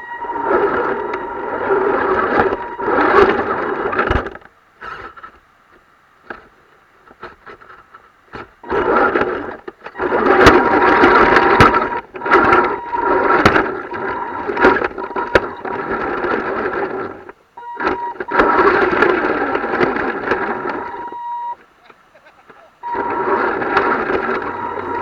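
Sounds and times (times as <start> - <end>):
model truck motor whirring: 0.0 - 5.4, 7.1 - 22.0, 22.7 - 25.0.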